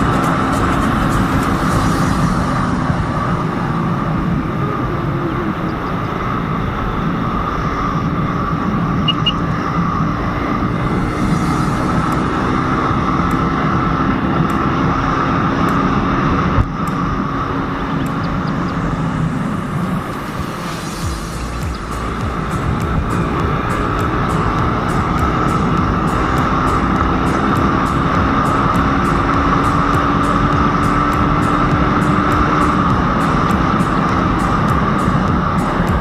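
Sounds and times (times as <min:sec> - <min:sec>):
motorcycle engine running: 0:00.0 - 0:36.0
wind rushing past microphone: 0:00.0 - 0:36.0.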